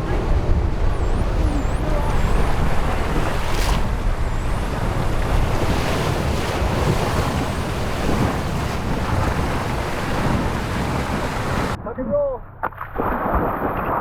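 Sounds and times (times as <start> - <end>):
rushing sea water: 0.0 - 11.8
wind buffeting microphone: 0.0 - 11.8.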